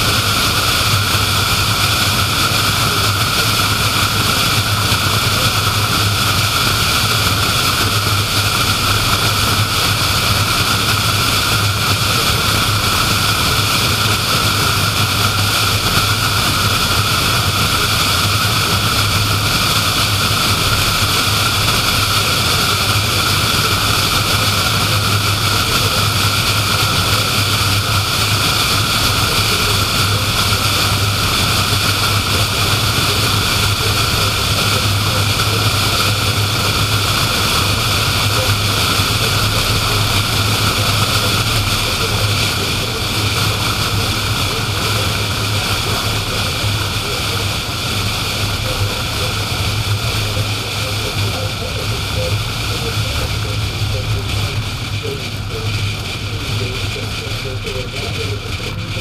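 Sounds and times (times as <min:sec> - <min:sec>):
constant low hum: 0:00.0 - 0:59.0.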